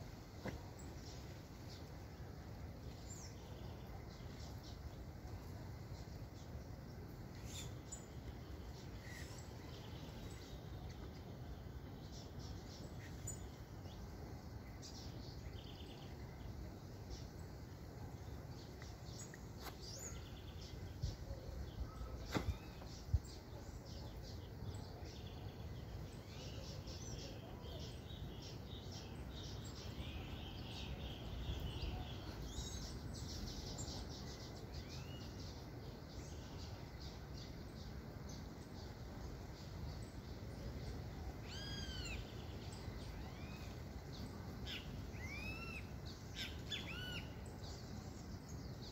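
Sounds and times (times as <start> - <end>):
low background noise: 0.0 - 48.9
wild birds chirping: 0.0 - 48.9.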